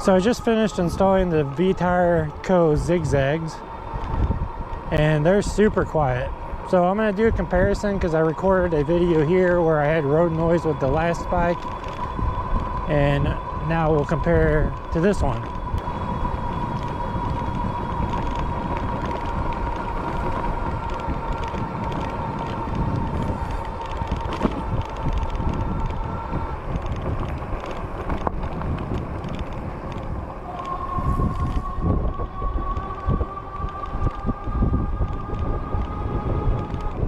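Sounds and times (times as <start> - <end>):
e-bike motor whine: 0.0 - 37.0
wind rumble on microphone: 0.0 - 37.0.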